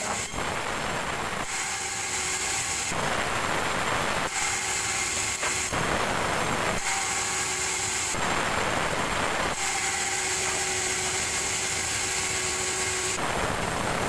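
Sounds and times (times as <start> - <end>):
band saw cutting log: 0.0 - 14.0.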